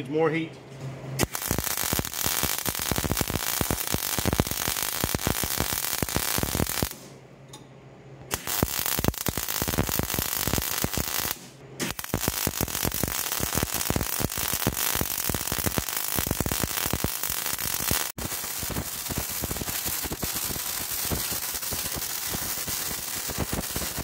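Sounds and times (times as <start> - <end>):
low welder hum: 0.0 - 24.0
welder arc crackling: 1.2 - 7.1, 8.3 - 24.0.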